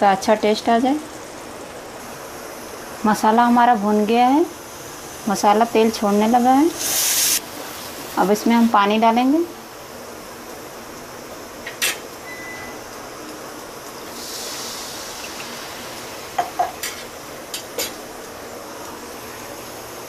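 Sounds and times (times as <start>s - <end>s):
water hissing in hot pan: 0.2s - 20.0s.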